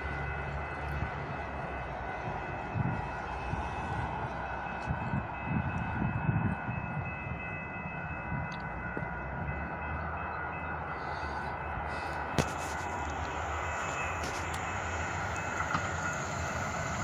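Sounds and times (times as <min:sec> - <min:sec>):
wind buffeting microphone: 0:00.9 - 0:17.0.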